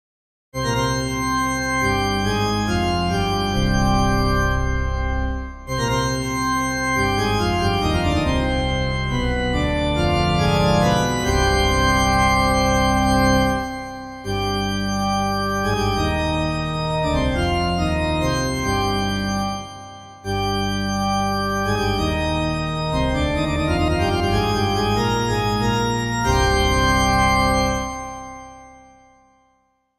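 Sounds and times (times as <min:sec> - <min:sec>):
church organ chords: 0:00.6 - 0:29.4.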